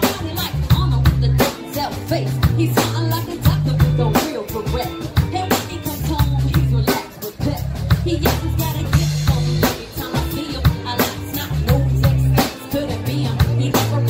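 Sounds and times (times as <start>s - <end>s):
bass notes: 0.0s - 14.0s
drum kit beat: 0.0s - 14.0s
electric guitar: 0.0s - 14.0s.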